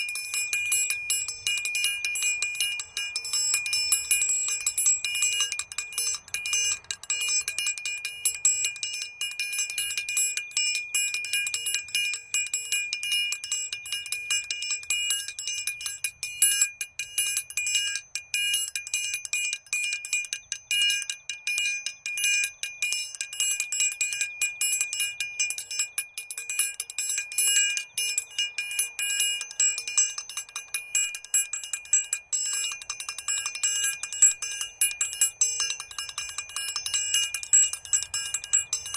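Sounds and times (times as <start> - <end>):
small metal bell ringing rapidly: 0.0 - 38.9.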